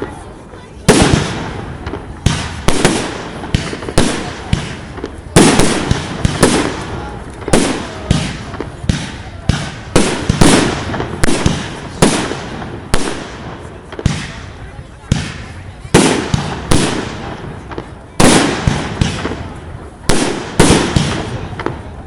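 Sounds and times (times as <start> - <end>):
fireworks bursting with loud bangs: 0.0 - 22.0.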